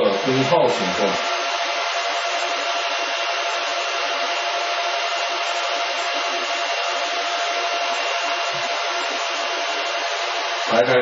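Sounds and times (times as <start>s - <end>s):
cooling fans rushing: 0.0s - 11.0s.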